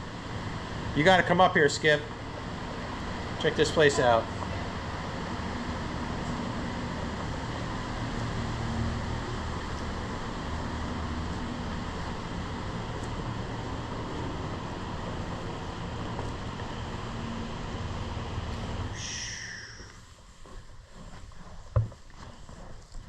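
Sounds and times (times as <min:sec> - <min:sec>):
faint hum: 0:00.0 - 0:23.0
low rumble and hiss: 0:00.0 - 0:23.0.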